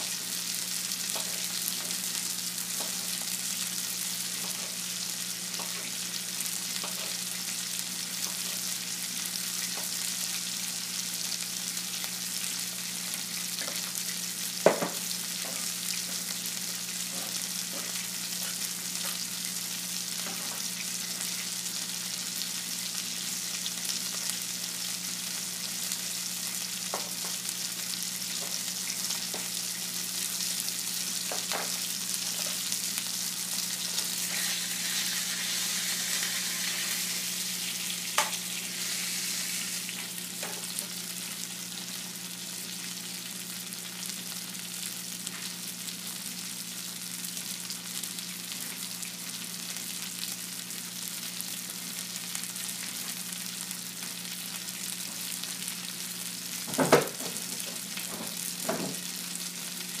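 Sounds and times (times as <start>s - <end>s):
food sizzling in frying pan: 0.0s - 60.0s.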